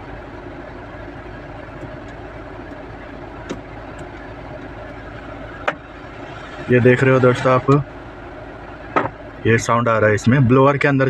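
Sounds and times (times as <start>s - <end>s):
air conditioning blower: 0.0s - 9.6s
engine idling: 0.0s - 11.0s.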